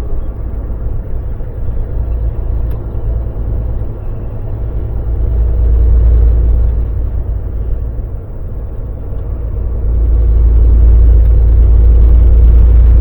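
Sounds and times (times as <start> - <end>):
diesel truck engine running: 0.0 - 13.0
road noise: 0.0 - 13.0.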